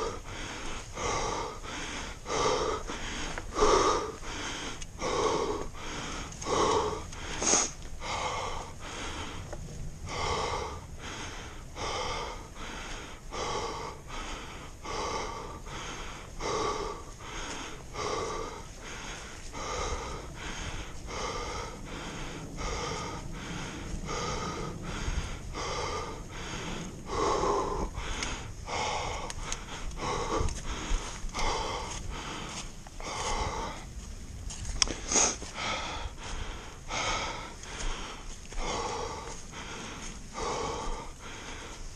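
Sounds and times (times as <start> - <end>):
person breathing hard and wheezing: 0.0 - 41.9.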